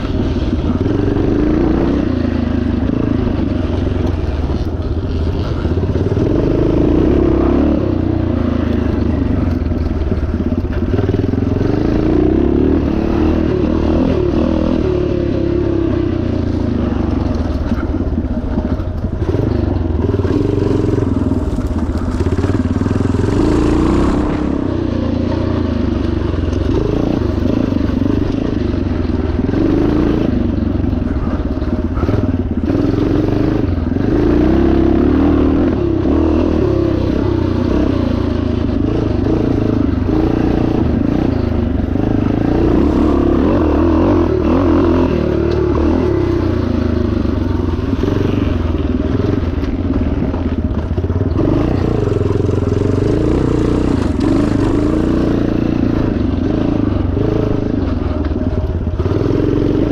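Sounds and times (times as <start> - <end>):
engine clatter: 0.0 - 59.9
motorcycle engine revving: 0.0 - 59.9.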